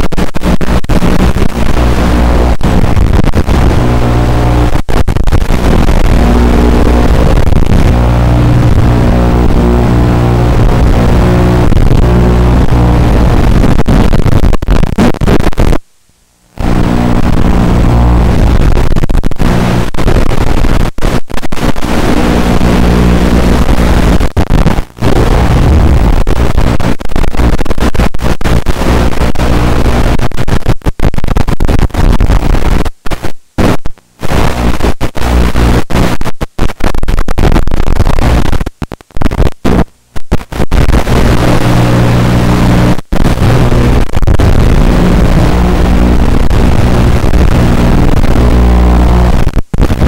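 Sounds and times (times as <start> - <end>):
harsh video feed noise: 0.0 - 50.0.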